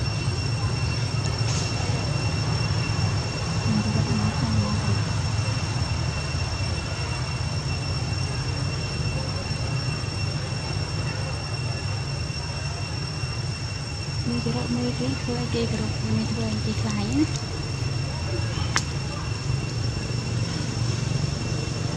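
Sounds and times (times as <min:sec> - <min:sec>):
high-pitched whine: 0:00.0 - 0:21.9.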